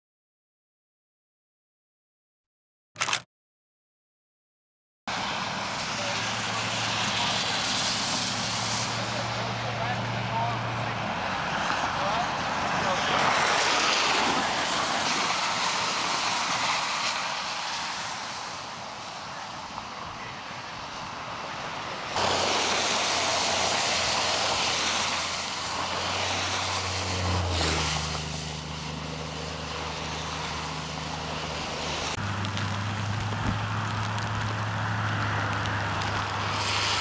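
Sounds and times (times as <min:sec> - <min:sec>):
traffic hiss on wet road: 0:05.1 - 0:37.0.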